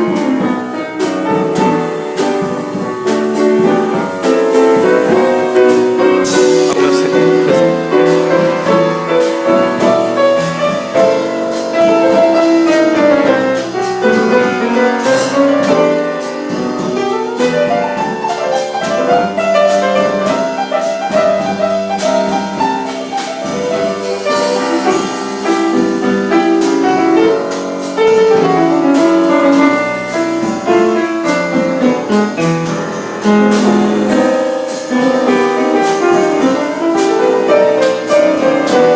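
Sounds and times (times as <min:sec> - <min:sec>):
jazz piano solo: 0:00.0 - 0:38.9
light drums: 0:00.0 - 0:38.9.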